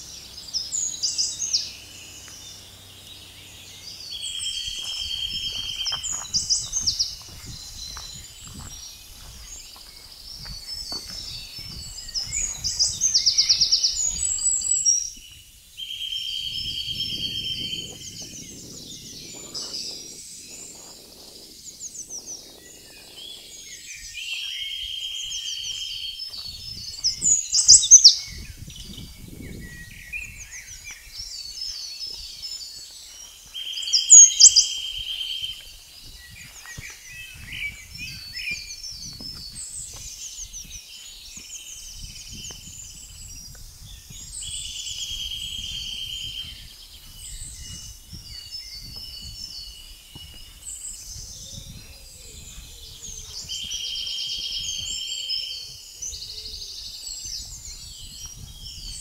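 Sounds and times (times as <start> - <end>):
woodland birds singing: 0.0 - 59.0.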